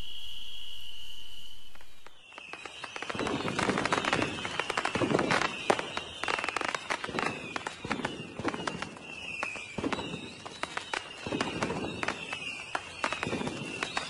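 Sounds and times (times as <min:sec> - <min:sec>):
rockets whistling: 0:00.0 - 0:14.0
crackle of sharp pops: 0:01.6 - 0:14.0
fireworks bursting with deep bangs: 0:01.6 - 0:14.0.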